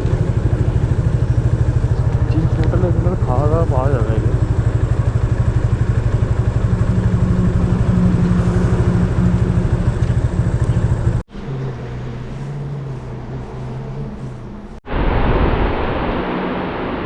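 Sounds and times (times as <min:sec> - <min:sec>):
motorcycle engine running: 0:00.0 - 0:14.8
quiet steady engine hum: 0:00.0 - 0:14.8.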